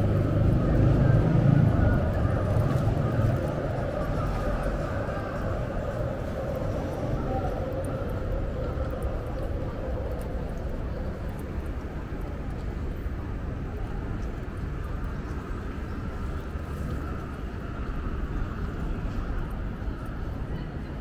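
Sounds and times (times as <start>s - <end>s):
city street rumble: 0.0s - 21.0s.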